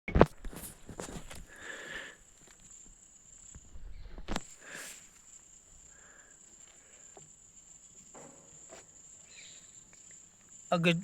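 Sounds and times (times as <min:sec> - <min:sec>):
cricket trilling: 0:00.5 - 0:11.0.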